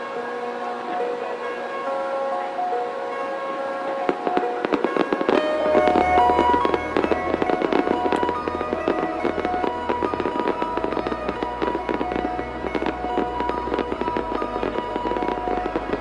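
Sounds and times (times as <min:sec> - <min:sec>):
music with held notes: 0:00.0 - 0:16.0
fireworks crackling and popping: 0:02.8 - 0:16.0.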